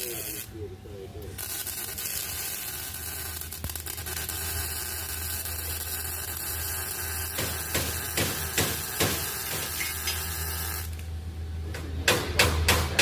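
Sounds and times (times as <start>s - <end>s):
welding arc hissing and crackling: 0.0s - 11.1s.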